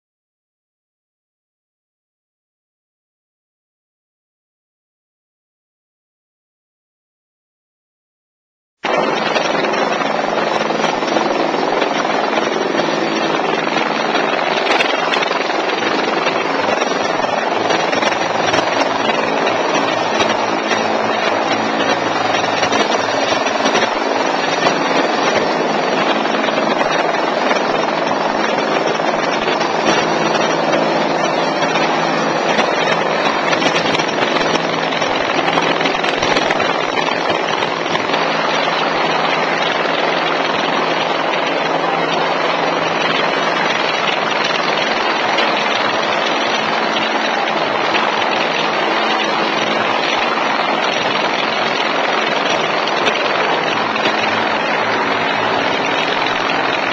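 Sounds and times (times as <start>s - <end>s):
helicopter hovering: 8.8s - 56.9s.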